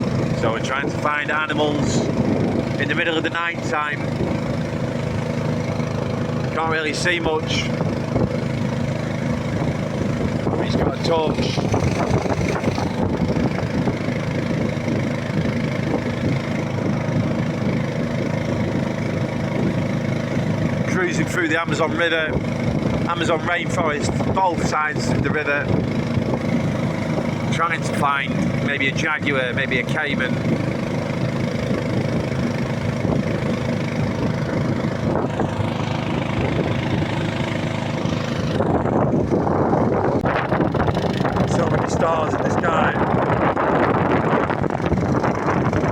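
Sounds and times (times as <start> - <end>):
boat motor running: 0.0 - 45.9.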